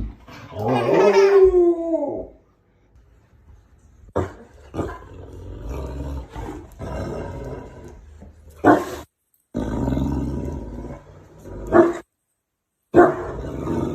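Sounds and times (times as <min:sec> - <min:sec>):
animal calling and growling: 0:00.0 - 0:02.4, 0:04.2 - 0:12.1, 0:13.0 - 0:13.9.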